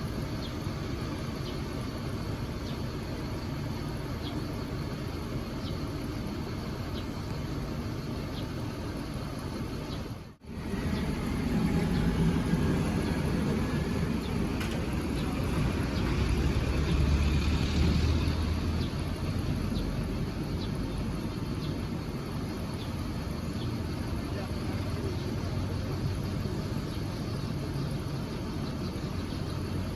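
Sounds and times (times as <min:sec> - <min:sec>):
vehicle engine rumble passing: 0:00.0 - 0:29.9.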